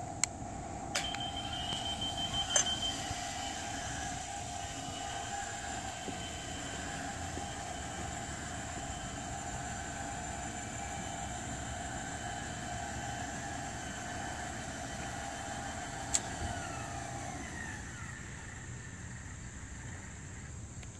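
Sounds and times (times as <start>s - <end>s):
gate motor whining: 0.0s - 20.1s.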